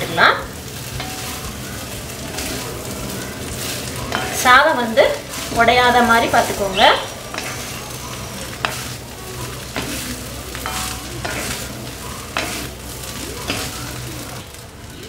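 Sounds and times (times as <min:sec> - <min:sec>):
fried rice sizzling in a pan: 0:00.0 - 0:15.0
spatula scraping a pan: 0:00.6 - 0:14.6.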